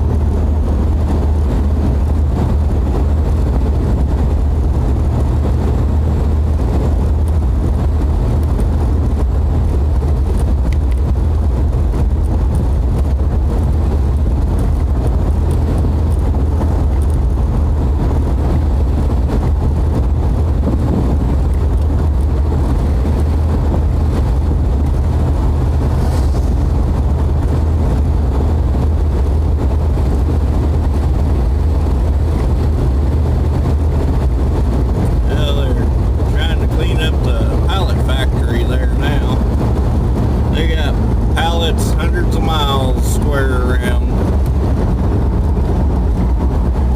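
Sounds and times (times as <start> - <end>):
car road and engine noise: 0.0 - 46.9.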